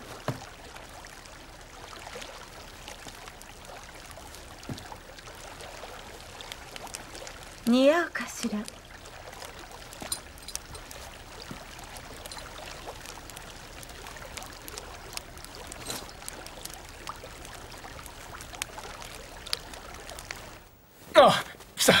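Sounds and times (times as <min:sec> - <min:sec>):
faint background hiss: 0:00.0 - 0:22.0.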